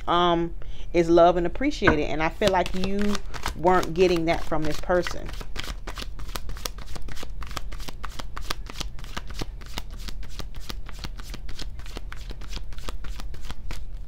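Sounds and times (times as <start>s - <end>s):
cards being shuffled: 2.5s - 14.0s.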